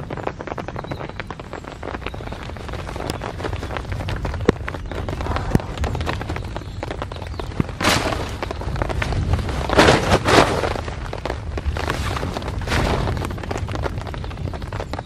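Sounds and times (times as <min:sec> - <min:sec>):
rain drumming on a tent: 0:00.0 - 0:15.0
thunder rumbling: 0:00.0 - 0:15.0.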